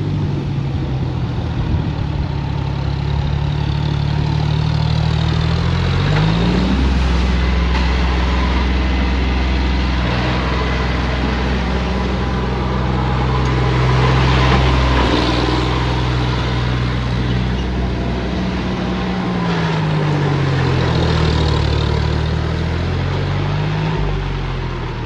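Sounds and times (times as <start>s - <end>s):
tractor engine running hard: 0.0s - 25.0s.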